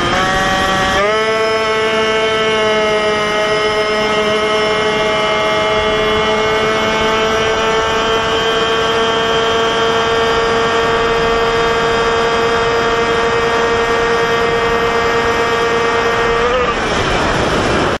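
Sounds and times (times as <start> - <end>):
moped engine running: 0.0 - 18.0
road noise: 0.0 - 18.0
rushing wind: 0.0 - 18.0.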